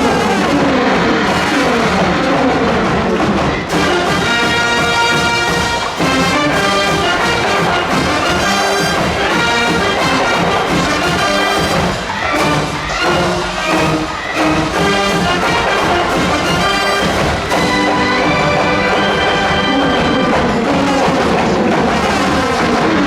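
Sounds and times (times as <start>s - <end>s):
wind band playing loudly: 0.0s - 23.0s.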